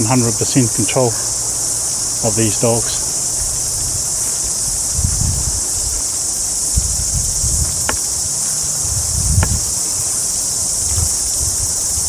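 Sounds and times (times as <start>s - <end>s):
low rumbles: 0.0s - 11.7s
high-pitched insect chorus: 0.0s - 12.0s.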